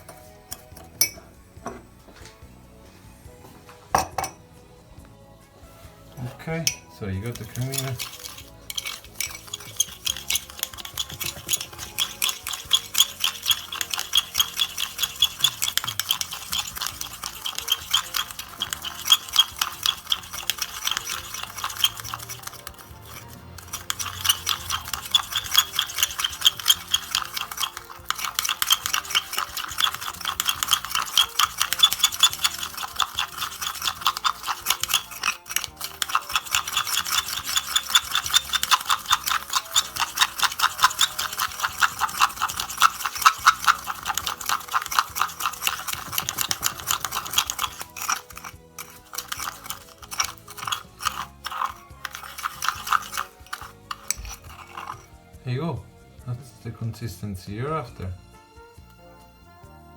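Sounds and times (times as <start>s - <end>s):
teaspoon scraping in a cup: 0.0s - 1.2s, 6.1s - 55.4s.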